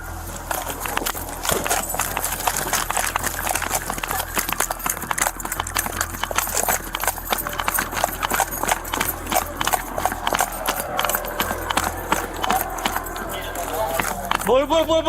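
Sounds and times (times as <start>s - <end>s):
rapid footfalls: 0.0s - 14.8s.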